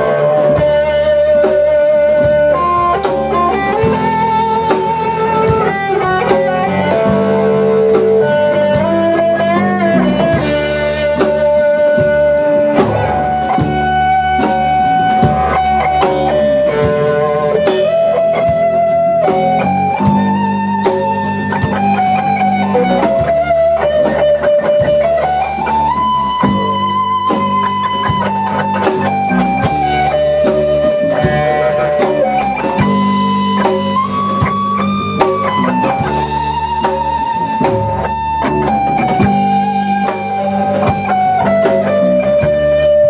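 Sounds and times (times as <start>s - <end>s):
drum kit steady beat: 0.0s - 43.0s
electric bass: 0.0s - 43.0s
electric guitar lead with vibrato: 0.0s - 43.0s.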